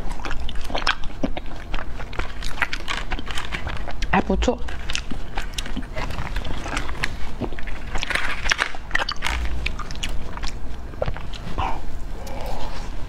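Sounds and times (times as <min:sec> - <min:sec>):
biting and eating ice cream: 0:00.0 - 0:13.0.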